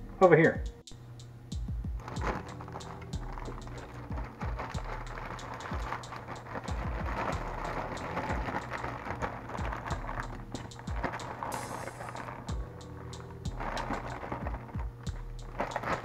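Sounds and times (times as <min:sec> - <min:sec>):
low steady hum: 0:00.0 - 0:16.0
plastic bag crackling: 0:02.0 - 0:16.0.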